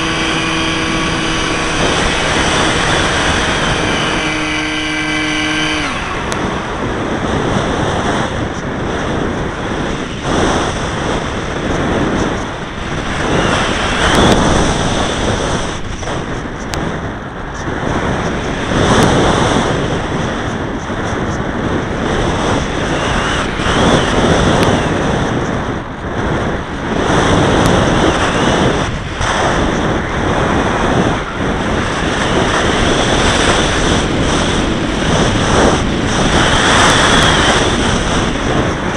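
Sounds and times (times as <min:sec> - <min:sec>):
model aircraft motor whine: 0:00.0 - 0:38.9
wind rushing over microphone: 0:00.0 - 0:38.9.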